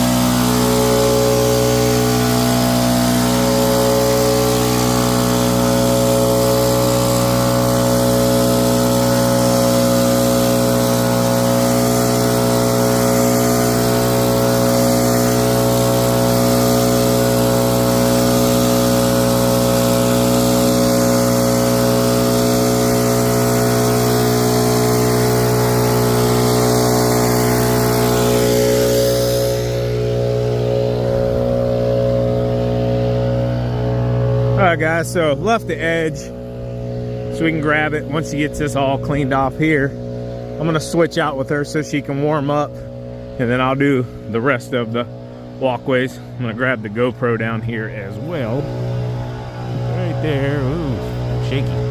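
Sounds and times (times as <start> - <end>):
snow-clearing machine engine humming: 0.0 - 51.9.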